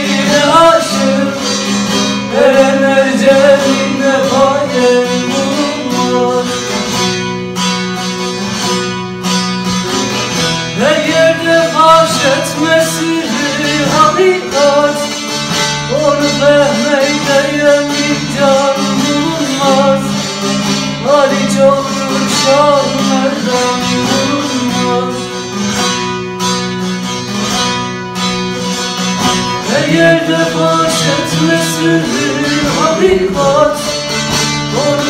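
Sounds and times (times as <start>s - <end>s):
saz folk melody: 0.0s - 35.0s.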